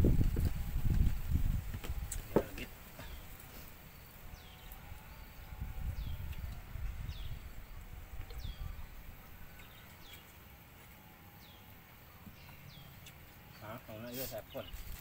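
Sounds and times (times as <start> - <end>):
bird chirping: 2.5 - 15.0.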